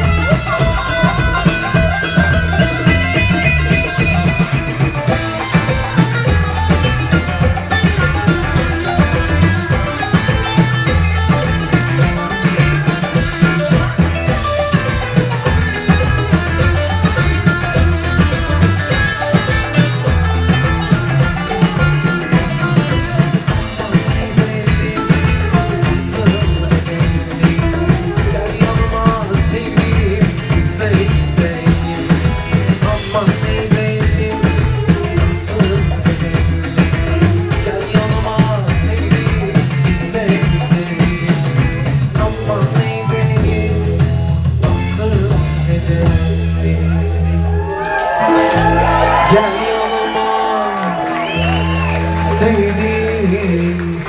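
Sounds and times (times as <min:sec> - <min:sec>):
live folk rock band playing: 0:00.0 - 0:54.0.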